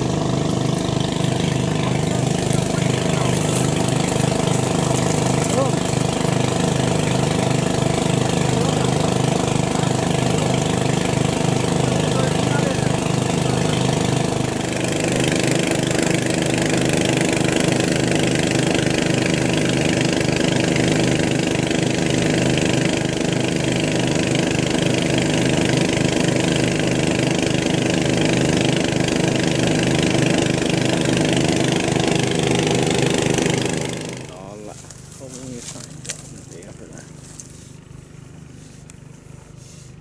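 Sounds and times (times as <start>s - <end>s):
water pump engine chugging: 0.0s - 40.0s.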